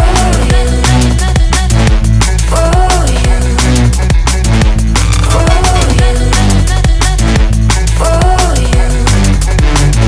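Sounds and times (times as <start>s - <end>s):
pop song with electronic beat: 0.0s - 10.0s.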